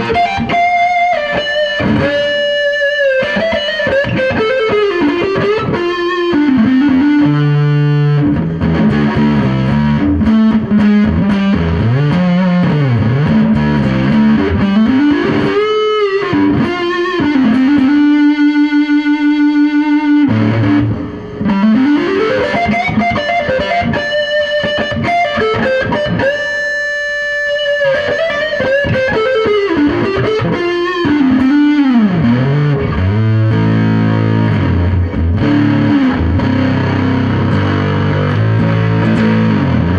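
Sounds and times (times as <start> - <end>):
fuzz electric guitar lead: 0.0 - 39.9.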